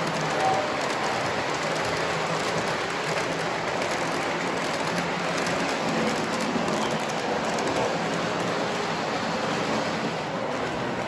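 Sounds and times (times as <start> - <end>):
toy train wheels rattling on rails: 0.0 - 9.0.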